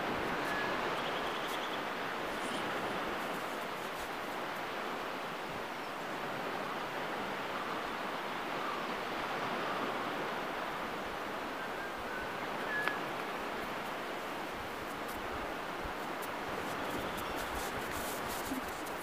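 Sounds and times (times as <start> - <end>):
surf and wind rushing: 0.0 - 19.0.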